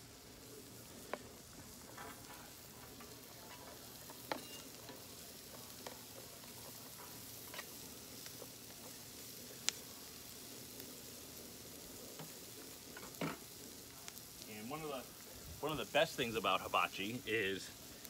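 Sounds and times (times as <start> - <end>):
food sizzling on a griddle: 0.0 - 18.0.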